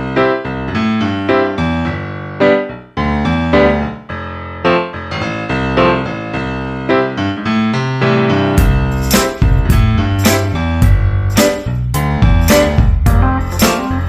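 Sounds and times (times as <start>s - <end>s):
upbeat electric piano tune: 0.0s - 14.0s.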